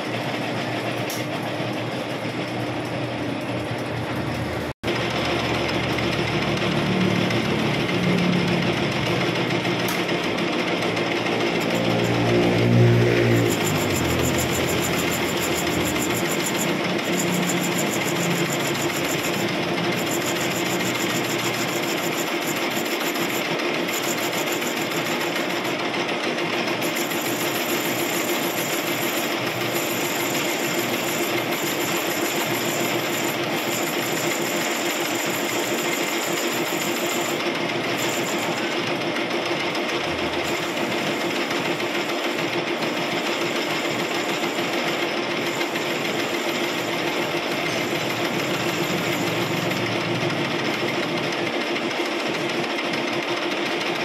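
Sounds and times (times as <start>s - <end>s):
metal lathe running: 0.0s - 54.0s.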